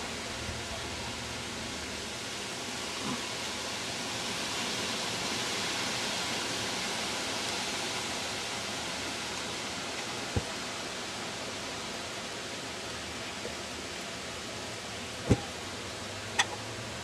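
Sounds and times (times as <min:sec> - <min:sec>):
snowstorm hissing: 0:00.0 - 0:17.0.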